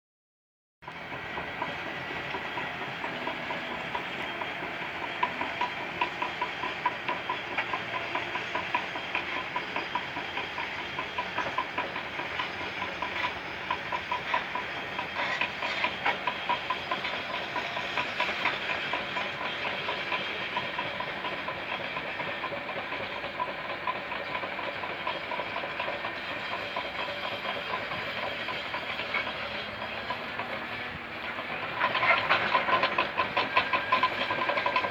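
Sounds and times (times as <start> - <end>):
bulldozer engine running: 0.8 - 34.9
steel crawler tracks clattering: 0.8 - 34.9.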